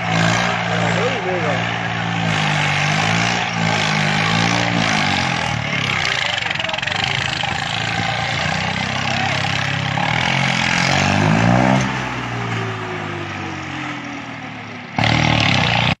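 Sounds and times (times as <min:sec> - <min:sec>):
crowd murmur: 0:00.0 - 0:14.9
tractor diesel engine revving: 0:00.0 - 0:16.0.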